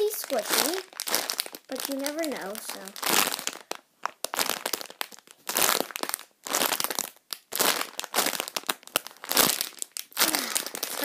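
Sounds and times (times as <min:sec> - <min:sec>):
plastic packaging crackling: 0:00.0 - 0:11.0.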